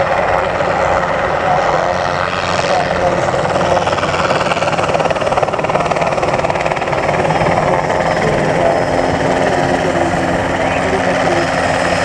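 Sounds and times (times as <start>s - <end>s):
helicopter engine running: 0.0s - 12.0s
helicopter rotor beating: 0.0s - 12.0s.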